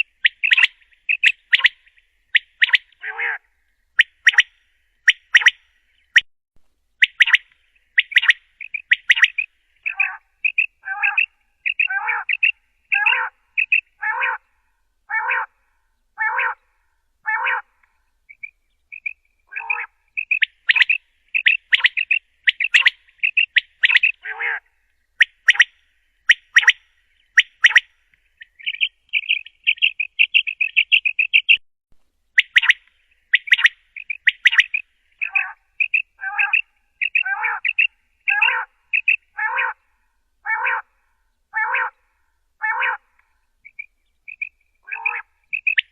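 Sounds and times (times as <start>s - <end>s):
quail calling: 0.0s - 4.5s, 7.0s - 14.5s, 15.1s - 15.6s, 16.2s - 16.6s, 17.2s - 17.7s, 18.3s - 31.6s, 32.4s - 39.8s, 40.4s - 40.9s, 41.5s - 42.0s, 42.6s - 45.9s.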